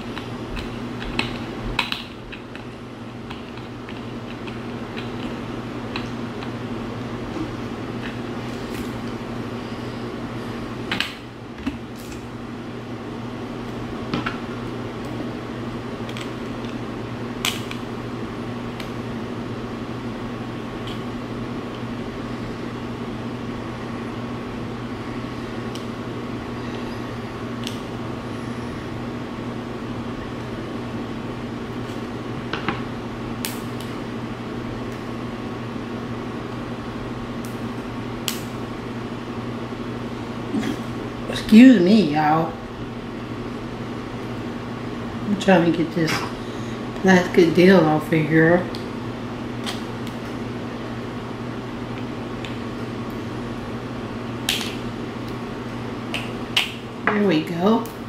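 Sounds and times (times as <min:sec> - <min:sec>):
appliance humming: 0:00.0 - 0:58.0.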